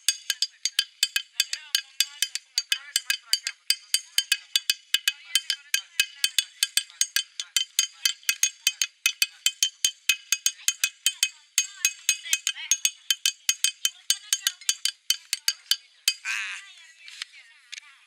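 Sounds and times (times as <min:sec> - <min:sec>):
fast rhythmic tapping clicks: 0:00.0 - 0:16.3.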